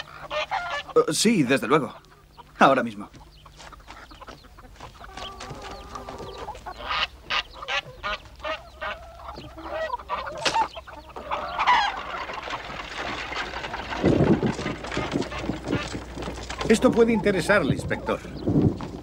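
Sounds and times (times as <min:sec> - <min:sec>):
geese and chickens calling: 0:00.0 - 0:19.0.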